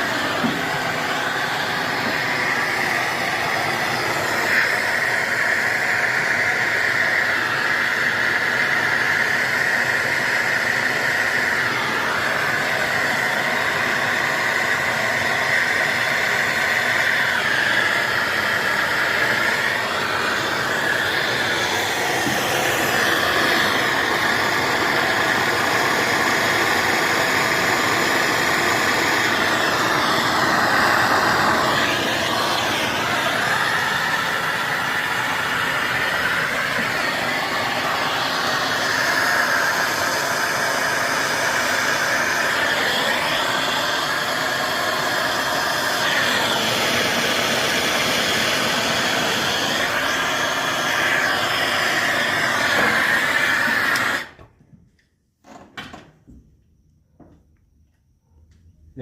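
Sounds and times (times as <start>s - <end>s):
gas torch hissing: 0.0s - 54.6s.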